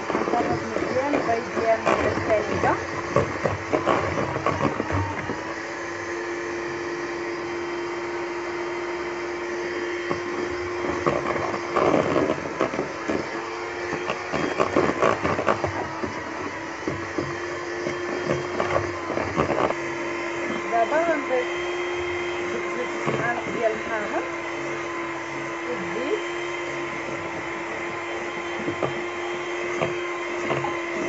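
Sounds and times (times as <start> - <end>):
electric hand mixer whisking: 0.0 - 31.0.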